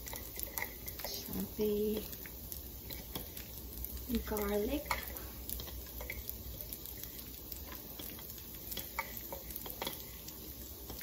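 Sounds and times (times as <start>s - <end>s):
garlic sizzling in butter: 0.0s - 11.0s
small pops and crackles: 0.0s - 11.0s.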